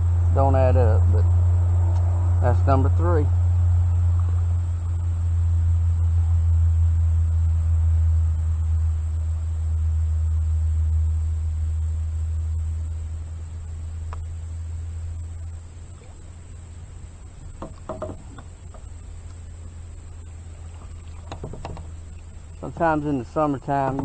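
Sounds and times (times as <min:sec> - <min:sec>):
insects droning: 0:00.0 - 0:24.0
steady low hum: 0:00.0 - 0:24.0.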